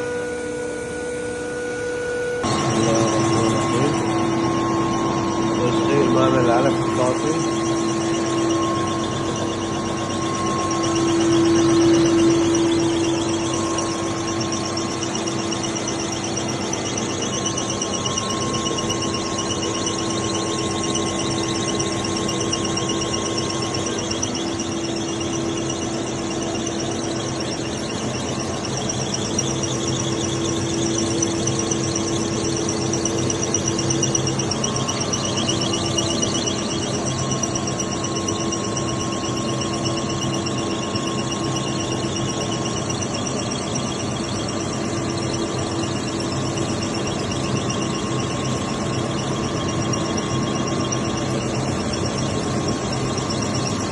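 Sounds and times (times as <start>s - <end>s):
machinery whine and hum: 0.0s - 53.9s.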